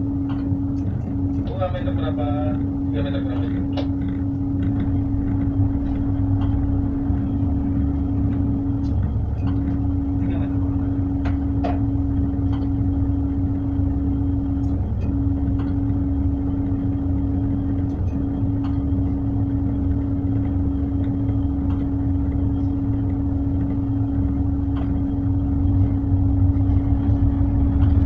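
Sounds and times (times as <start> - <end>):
boat engine rumbling: 0.0 - 28.0
constant hum: 0.0 - 28.0.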